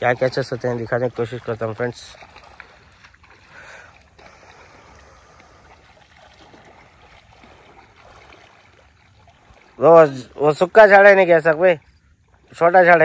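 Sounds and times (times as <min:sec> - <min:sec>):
water lapping as person wades: 0:00.0 - 0:13.0.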